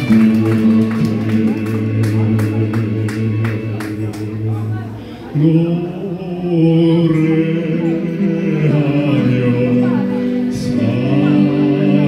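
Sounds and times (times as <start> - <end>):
keyboard accompaniment: 0.0 - 12.0
man singing slow song: 0.0 - 12.0.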